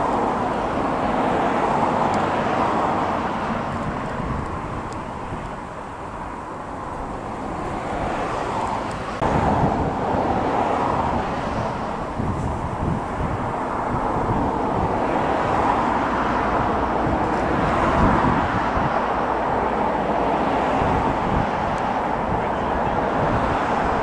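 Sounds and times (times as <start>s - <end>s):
outdoor rushing noise: 0.0s - 24.0s.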